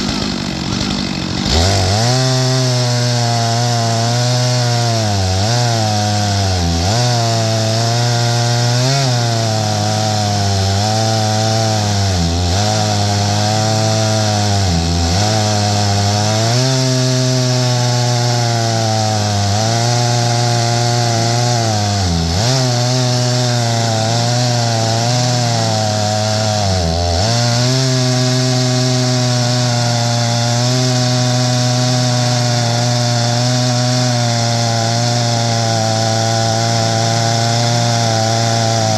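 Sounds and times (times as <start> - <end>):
chainsaw ripping through wood: 0.0 - 38.9.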